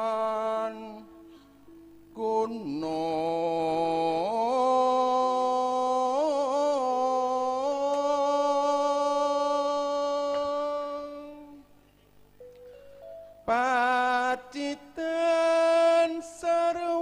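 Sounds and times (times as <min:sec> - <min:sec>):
person singing a long note: 0:00.0 - 0:11.7, 0:13.4 - 0:17.0.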